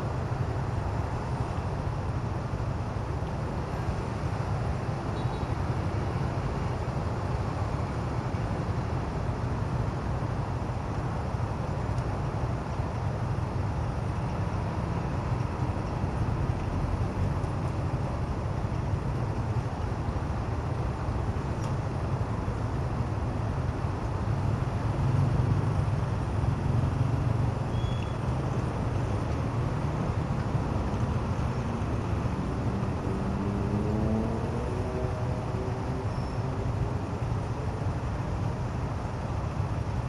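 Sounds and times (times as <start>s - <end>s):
passing city traffic: 0.0s - 40.0s.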